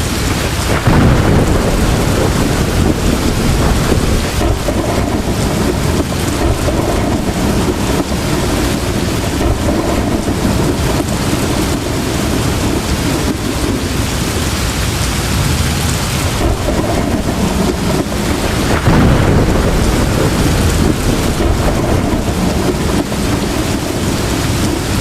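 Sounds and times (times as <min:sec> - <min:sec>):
heavy rain pouring: 0:00.0 - 0:25.0
thunder rumbling: 0:00.0 - 0:25.0.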